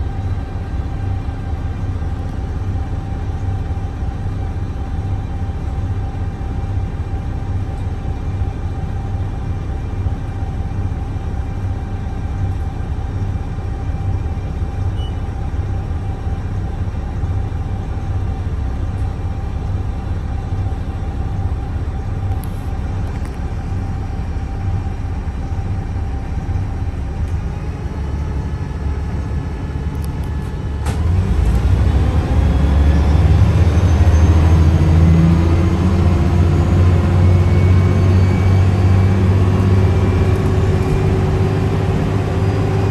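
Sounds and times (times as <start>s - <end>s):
bus engine rumble: 0.0s - 42.9s
transmission whine: 0.0s - 42.9s.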